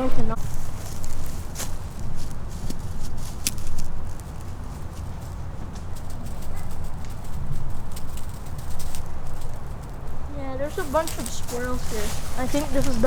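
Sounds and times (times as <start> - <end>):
footsteps on dirt trail: 0.0 - 13.0
steady low rumble: 0.0 - 13.0.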